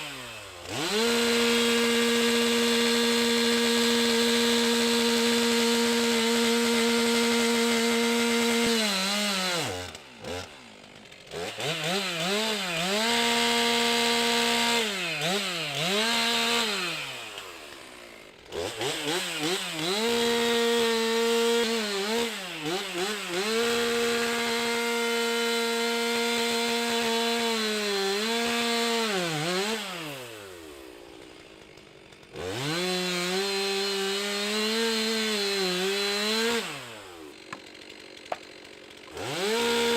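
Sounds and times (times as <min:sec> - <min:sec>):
chainsaw revving cutting wood: 0:00.0 - 0:39.9.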